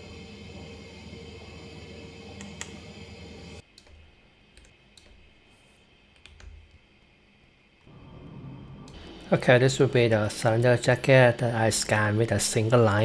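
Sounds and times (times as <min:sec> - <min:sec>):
machine hum: 0:00.0 - 0:05.2, 0:07.6 - 0:13.0.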